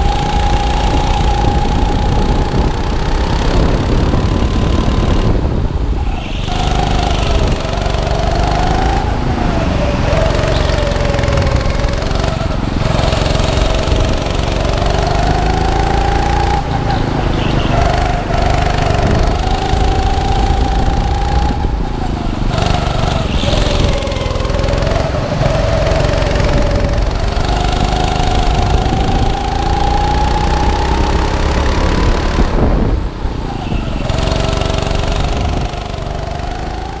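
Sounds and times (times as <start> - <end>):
go-kart engine: 0.0 - 37.0.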